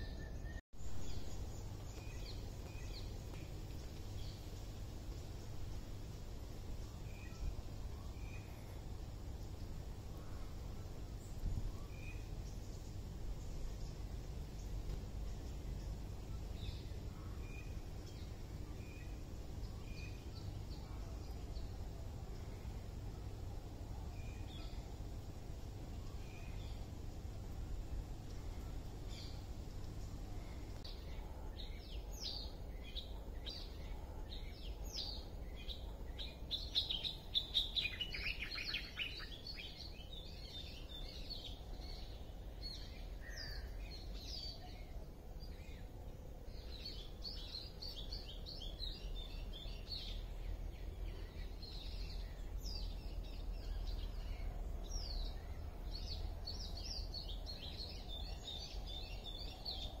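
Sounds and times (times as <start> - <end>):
low steady rumble: 0.0 - 60.0
small birds chirping: 0.0 - 60.0.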